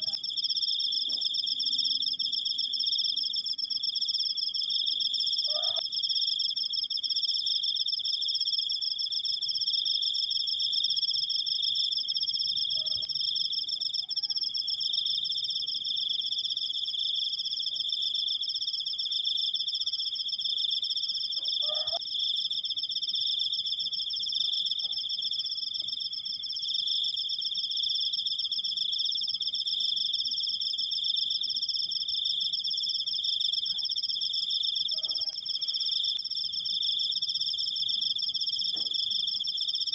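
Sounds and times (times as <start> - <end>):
cricket trilling: 0.0 - 39.9.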